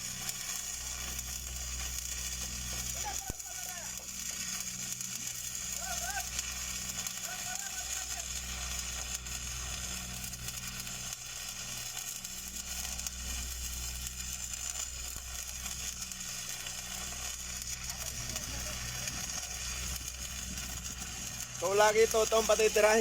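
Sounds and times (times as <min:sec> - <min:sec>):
steady low hum: 0:00.0 - 0:23.0
welding arc crackling and sizzling: 0:00.0 - 0:23.0.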